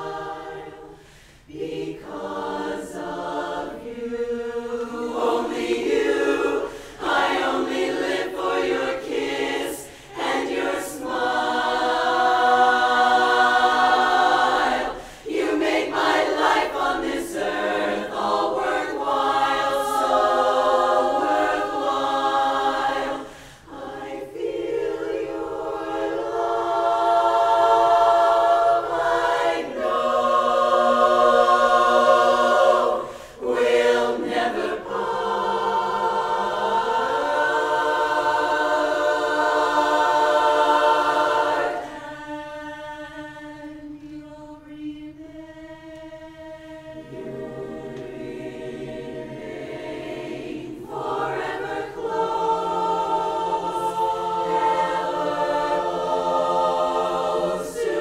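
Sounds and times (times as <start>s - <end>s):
women's chorus singing a cappella: 0.0s - 58.0s.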